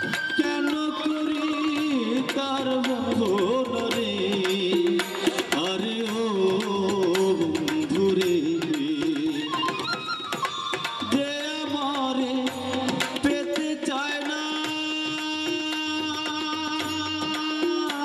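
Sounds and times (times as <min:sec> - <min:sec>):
hand drums beating: 0:00.0 - 0:18.0.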